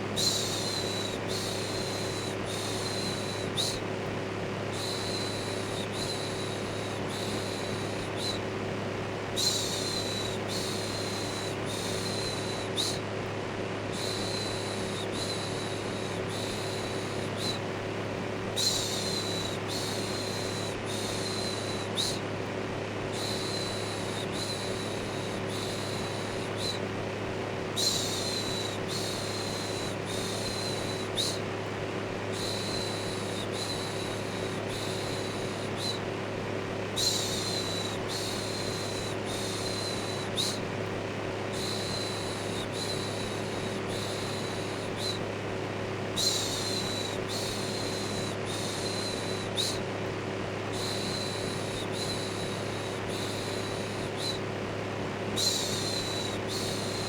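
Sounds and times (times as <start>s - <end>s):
electric fan humming: 0.0s - 57.0s.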